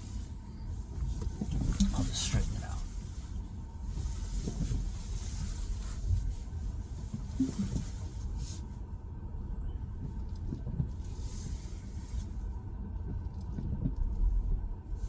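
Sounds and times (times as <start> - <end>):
low rumble inside car cabin: 0.0 - 15.0.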